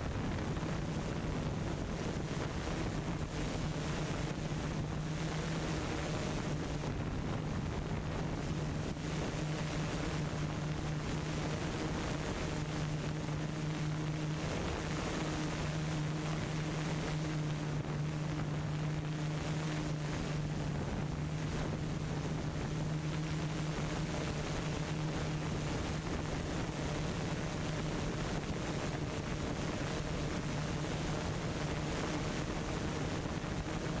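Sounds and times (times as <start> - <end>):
constant rushing noise: 0.0 - 34.0
low mechanical hum: 0.0 - 34.0.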